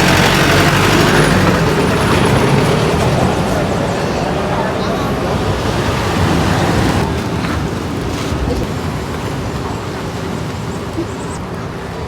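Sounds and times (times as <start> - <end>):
surf washing in: 1.8 - 12.0.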